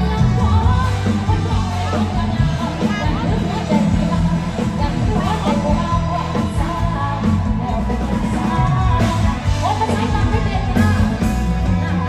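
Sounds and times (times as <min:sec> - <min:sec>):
live band music: 0:00.0 - 0:12.0
person singing: 0:00.0 - 0:12.0.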